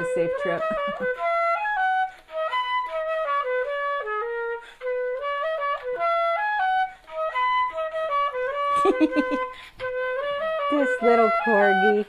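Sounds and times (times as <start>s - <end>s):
instrumental melody: 0.0s - 12.0s.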